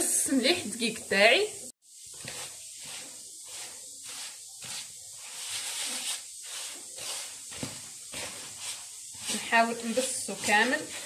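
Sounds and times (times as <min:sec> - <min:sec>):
hands rubbing semolina: 0:01.9 - 0:11.0.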